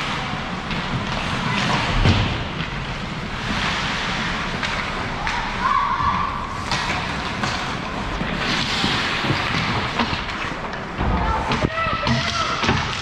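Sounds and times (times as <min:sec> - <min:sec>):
skates scraping ice: 0:00.0 - 0:13.0
sticks and puck clacking: 0:00.0 - 0:13.0.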